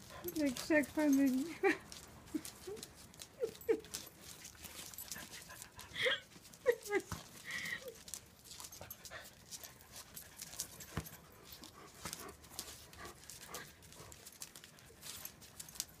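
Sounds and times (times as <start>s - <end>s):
small dog panting: 0.0s - 15.9s.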